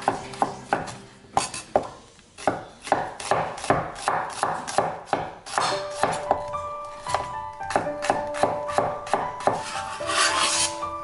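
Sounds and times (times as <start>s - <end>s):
cleaver chopping on cutting board: 0.0s - 6.4s, 7.1s - 10.6s.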